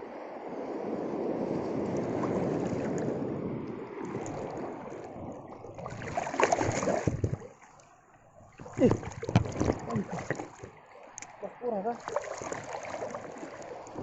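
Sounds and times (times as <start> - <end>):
sea waves washing in: 0.0 - 14.0.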